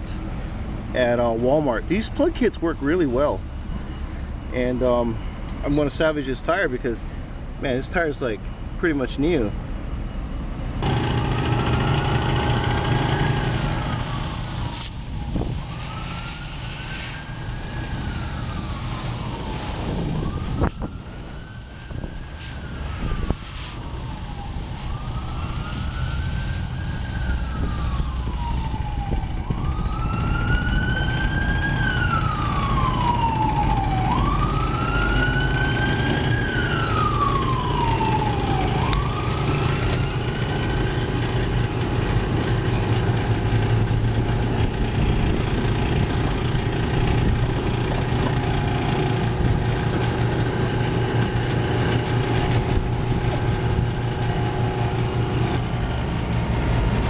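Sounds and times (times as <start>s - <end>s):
low engine or traffic rumble: 0.0s - 57.0s
emergency vehicle siren wailing: 0.1s - 6.9s, 10.8s - 57.0s.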